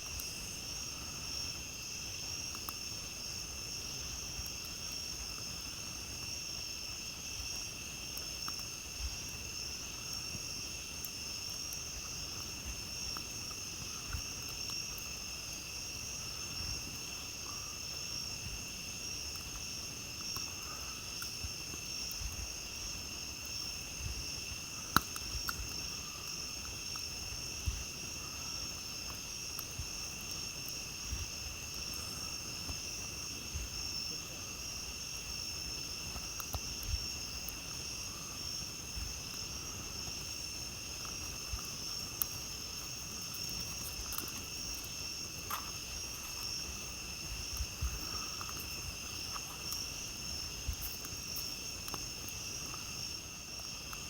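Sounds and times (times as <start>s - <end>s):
campfire crackling and popping: 0.0s - 54.0s
crickets trilling: 0.0s - 54.0s.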